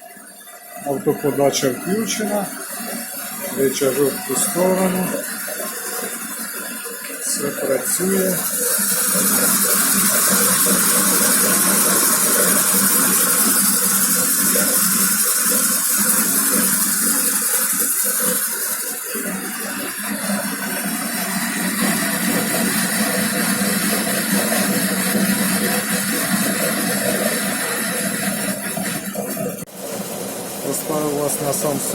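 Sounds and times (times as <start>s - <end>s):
lathe motor hum: 0.7s - 31.9s
lathe tool cutting metal: 0.8s - 31.9s.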